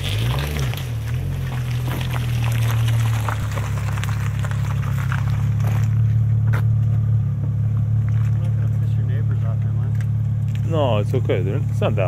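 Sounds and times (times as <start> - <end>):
car exhaust drone idling: 0.0 - 12.0.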